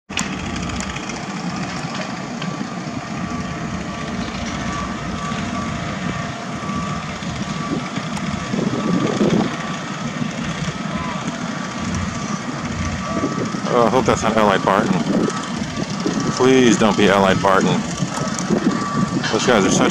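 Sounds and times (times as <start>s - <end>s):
heavy machinery running: 0.1s - 19.9s
reversing alarm beeping: 0.5s - 19.9s.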